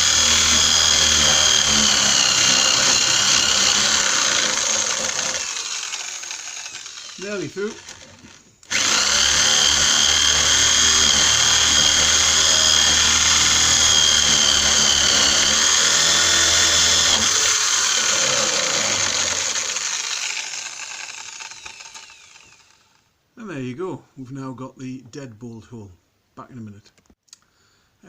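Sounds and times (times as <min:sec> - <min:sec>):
power drill boring into wood: 0:00.0 - 0:23.0.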